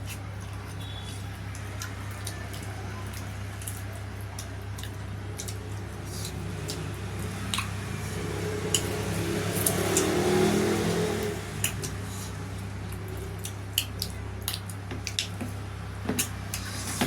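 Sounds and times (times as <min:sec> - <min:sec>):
wet squishy eating sounds: 0:00.0 - 0:17.0.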